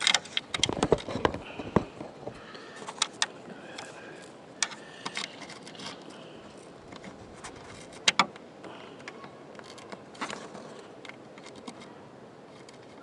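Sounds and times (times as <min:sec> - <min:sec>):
cable handling clicks and rubbing: 0:00.0 - 0:13.0.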